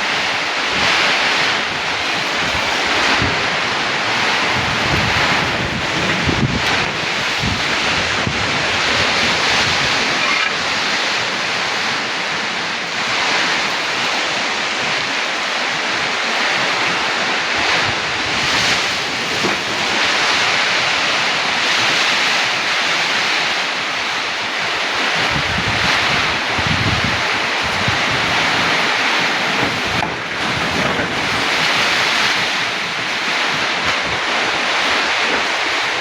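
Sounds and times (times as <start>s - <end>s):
heavy rain: 0.0s - 36.0s
strong wind: 0.0s - 36.0s
wind buffeting microphone: 0.0s - 36.0s.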